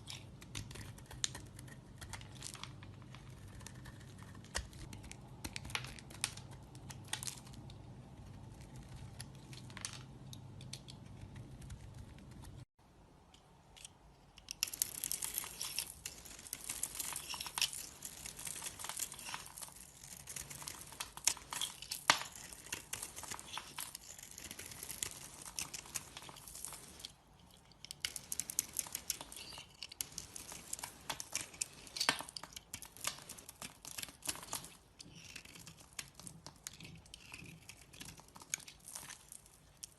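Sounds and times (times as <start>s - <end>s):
knife carving soap: 0.0s - 12.7s, 13.4s - 39.9s.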